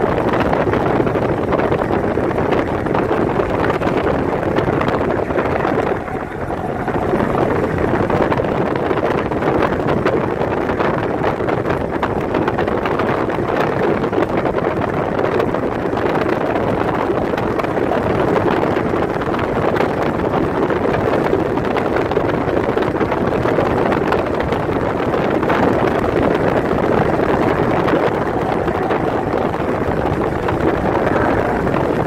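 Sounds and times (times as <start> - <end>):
car road noise at speed: 0.0 - 32.0
wind blowing on microphone: 0.0 - 32.0.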